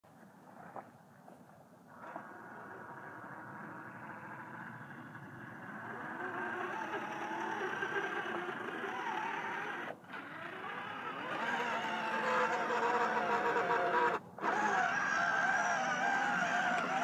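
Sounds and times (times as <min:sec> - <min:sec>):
toy car motor whirring: 0:02.0 - 0:17.0
tyres churning through mud: 0:02.0 - 0:17.0.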